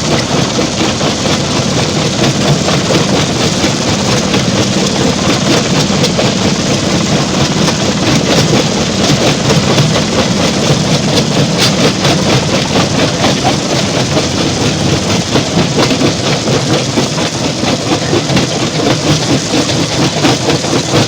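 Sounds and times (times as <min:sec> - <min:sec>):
stone crushing machinery running: 0:00.0 - 0:21.0.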